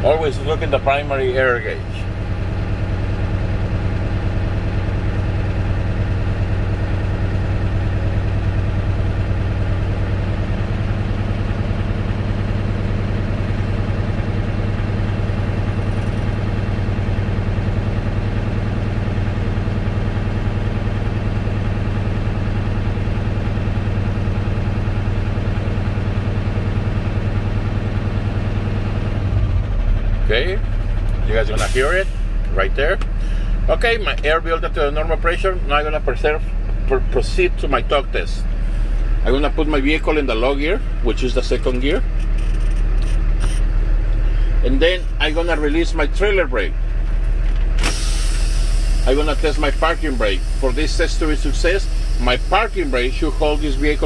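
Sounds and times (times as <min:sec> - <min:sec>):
diesel engine idling: 0:00.0 - 0:54.0
air compressor running: 0:01.8 - 0:34.0, 0:34.8 - 0:54.0.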